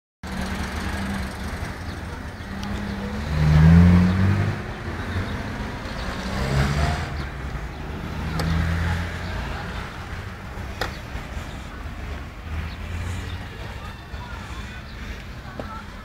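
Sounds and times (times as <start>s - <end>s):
engine revving: 0.2s - 14.4s
street traffic: 0.2s - 16.0s.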